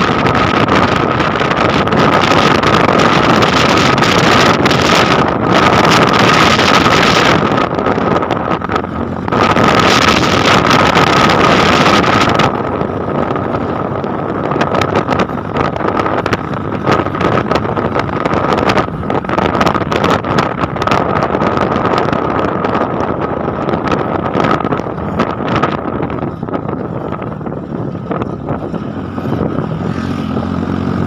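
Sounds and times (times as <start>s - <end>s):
wind noise on microphone: 0.0s - 31.0s.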